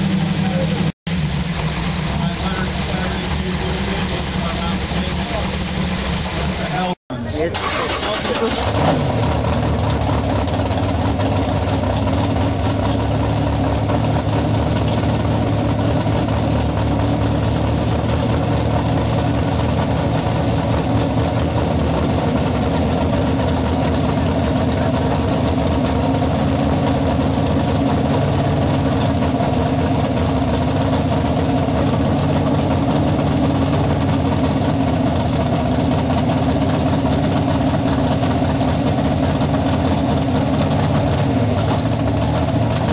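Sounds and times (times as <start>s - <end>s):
race car engine idling: 0.0s - 42.9s.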